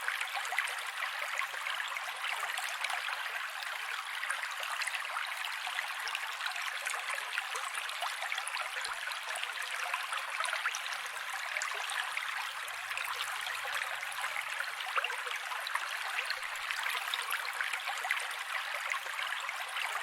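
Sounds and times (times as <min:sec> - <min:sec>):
small splashes and trickles: 0:00.0 - 0:20.0.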